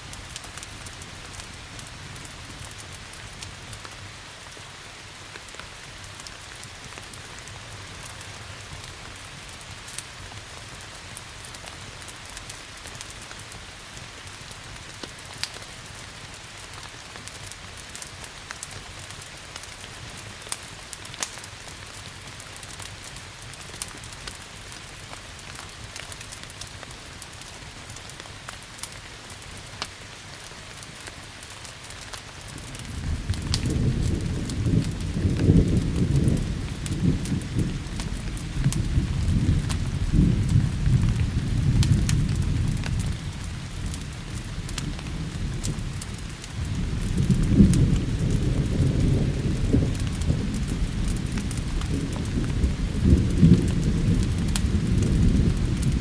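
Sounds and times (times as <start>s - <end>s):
steady rain hiss: 0.0s - 56.0s
wood fire crackling: 0.0s - 56.0s.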